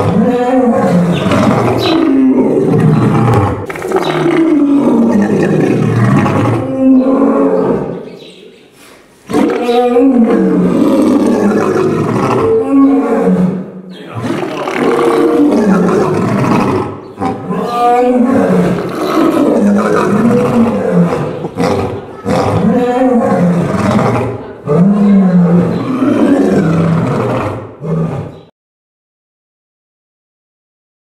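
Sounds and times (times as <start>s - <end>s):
lion roaring: 0.0s - 8.0s, 9.3s - 28.5s.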